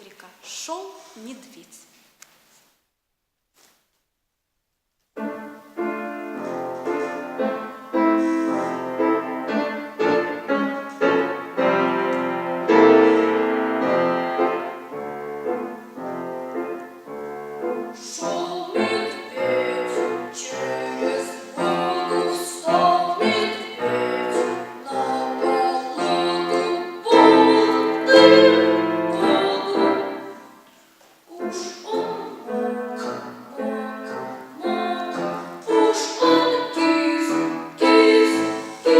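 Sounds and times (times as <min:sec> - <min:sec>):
piano playing a song tune: 0:05.2 - 0:30.4, 0:31.3 - 0:38.9.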